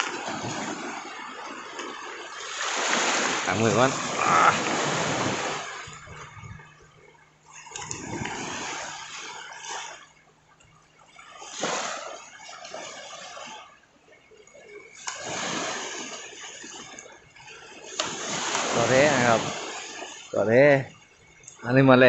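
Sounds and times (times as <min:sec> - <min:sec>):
seawater splashing and sloshing: 0:00.0 - 0:22.0.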